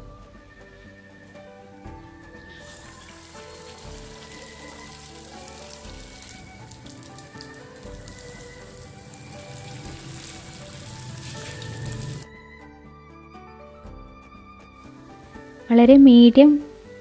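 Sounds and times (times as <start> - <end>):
buns deep-frying in oil: 0.0 - 12.3, 14.8 - 17.0
background music: 0.0 - 17.0.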